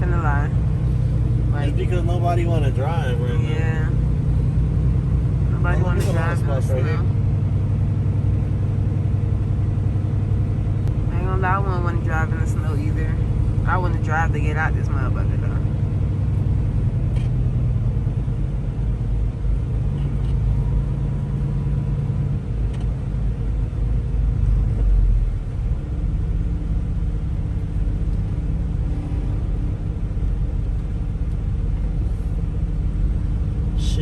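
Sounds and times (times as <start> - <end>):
truck diesel engine drone: 0.0 - 34.0.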